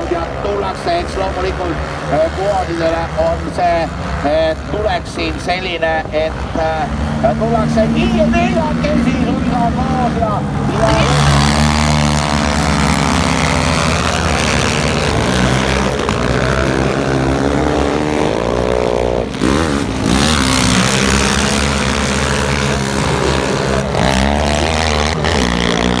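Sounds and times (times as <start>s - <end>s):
quad bike engines revving: 0.0s - 26.0s.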